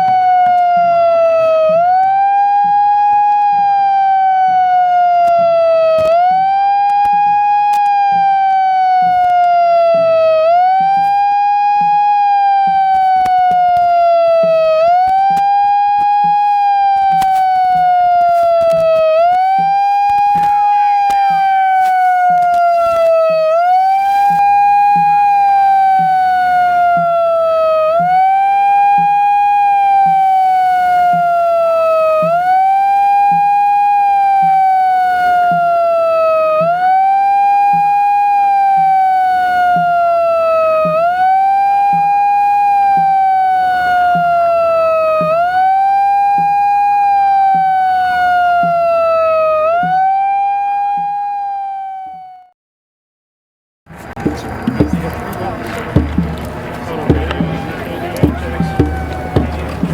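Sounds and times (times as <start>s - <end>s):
siren wailing: 0.0s - 52.6s, 53.9s - 59.9s.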